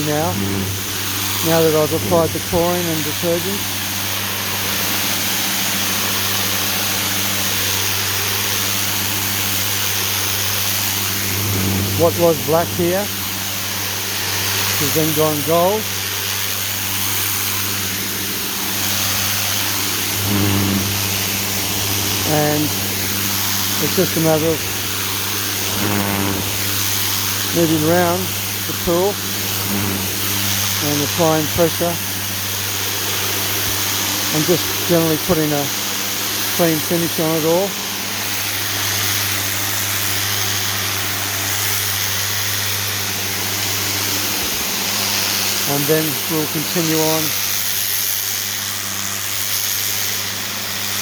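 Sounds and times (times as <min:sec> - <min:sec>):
pressure washer motor hum: 0:00.0 - 0:51.0
water jet hissing on stone: 0:00.0 - 0:51.0.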